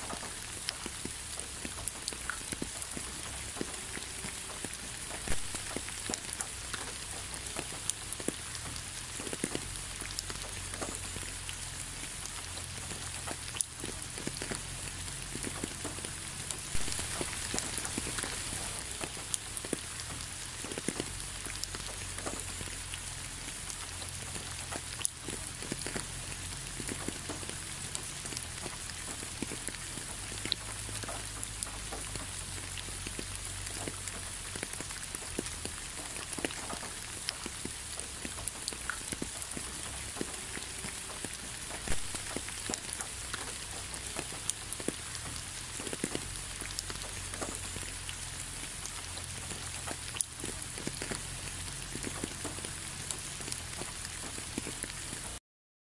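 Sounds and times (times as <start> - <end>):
louder raindrops ticking: 0.0 - 55.4
steady rain falling: 0.0 - 55.4.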